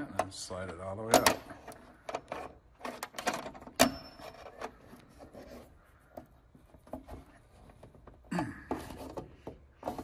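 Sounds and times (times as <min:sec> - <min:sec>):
metal nut clicking and scraping: 0:00.0 - 0:08.1.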